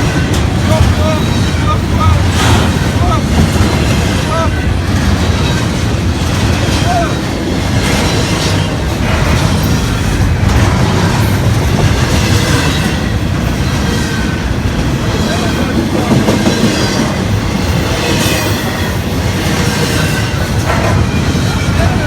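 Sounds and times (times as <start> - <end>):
train rumbling past: 0.0 - 22.0
wheels clacking over rail joints: 0.0 - 22.0.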